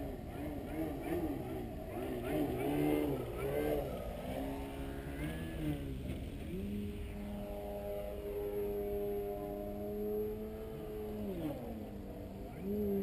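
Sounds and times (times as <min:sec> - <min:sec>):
model airplane motor and propeller: 0:00.0 - 0:13.0.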